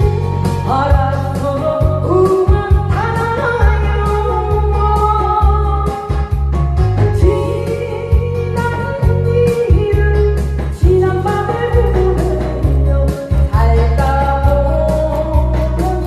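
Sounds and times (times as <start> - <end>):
amplified backing track: 0.0 - 16.0
woman singing into microphone: 0.0 - 16.0.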